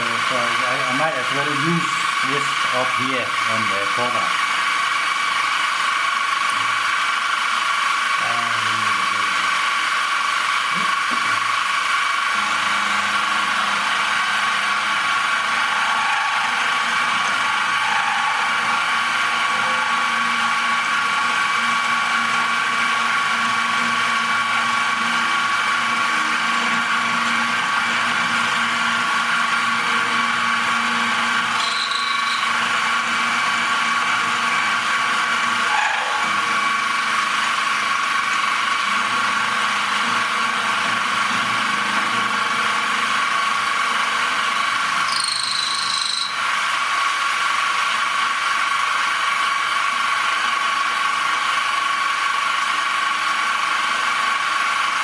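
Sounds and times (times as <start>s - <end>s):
machine tool high whine: 0.0s - 55.0s.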